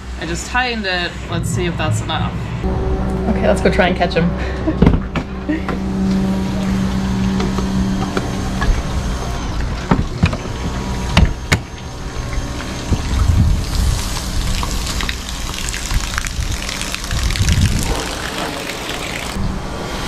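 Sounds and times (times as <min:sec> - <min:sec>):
low rumbles: 0:00.0 - 0:18.0.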